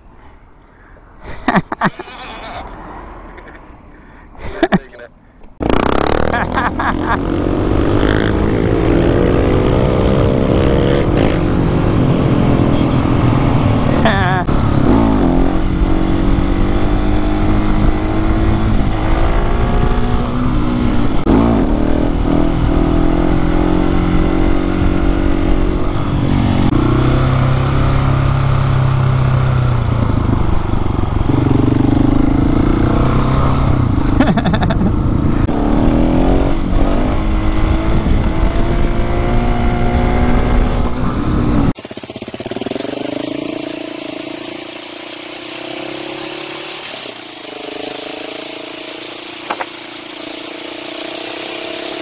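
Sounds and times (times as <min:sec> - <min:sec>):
motorcycle engine accelerating: 0:05.6 - 0:52.0.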